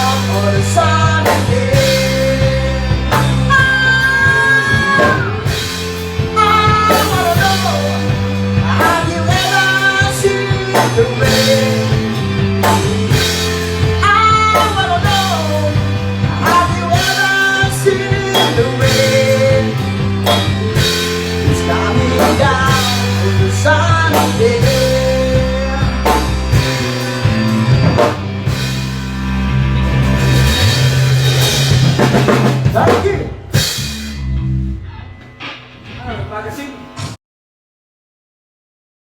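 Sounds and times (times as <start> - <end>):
sliding melody line: 0.0 - 35.3
bass and guitar: 0.0 - 37.2
drum kit beat: 0.0 - 37.2.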